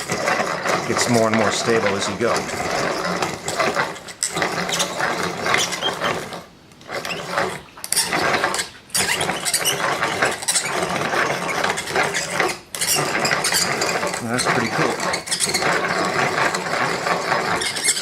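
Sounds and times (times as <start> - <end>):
cutter blade scraping wood: 0.0 - 18.0.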